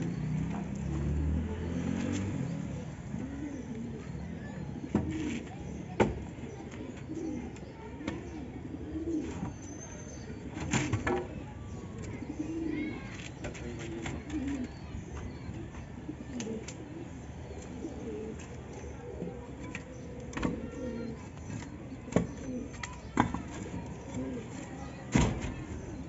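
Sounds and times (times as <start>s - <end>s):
pigeons cooing: 0.0s - 10.8s, 11.8s - 26.0s.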